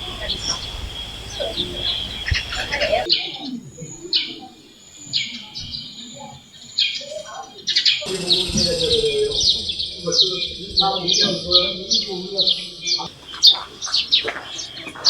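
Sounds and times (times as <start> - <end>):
background hiss: 0.0 - 10.7, 12.4 - 15.0
small birds chirping: 0.0 - 15.0.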